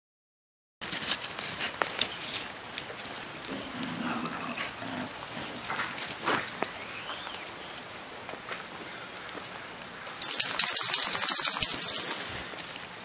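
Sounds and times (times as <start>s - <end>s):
rain falling: 1.3s - 13.0s.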